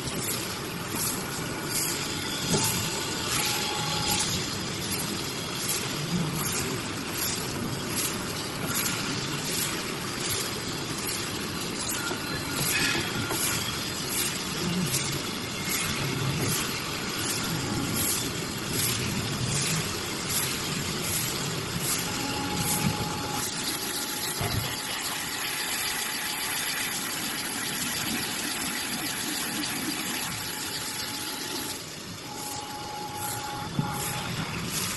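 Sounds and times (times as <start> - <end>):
faint machine whine: 0.0 - 34.9
machine running: 0.0 - 34.9.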